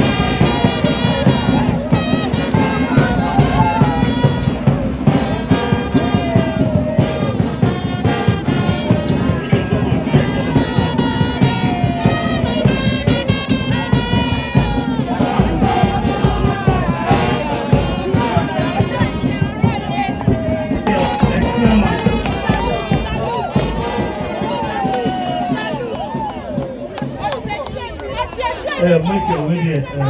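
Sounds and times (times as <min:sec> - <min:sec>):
upbeat brass music with driving beat: 0:00.0 - 0:26.6.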